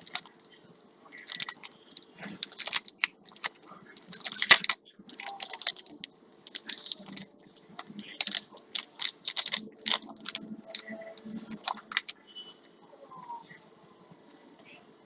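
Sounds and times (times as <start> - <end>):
packaging rustling and crinkling: 0.0 - 12.1.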